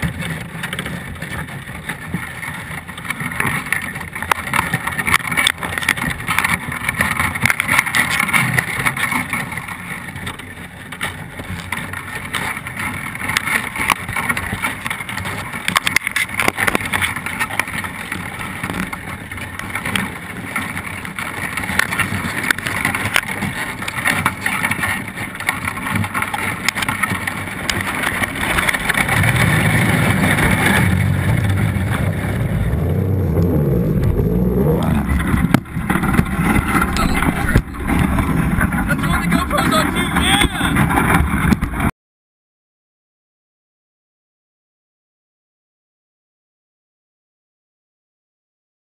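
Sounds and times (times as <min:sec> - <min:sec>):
underwater crackles and clicks: 0:00.0 - 0:41.9
underwater rushing: 0:00.0 - 0:41.9.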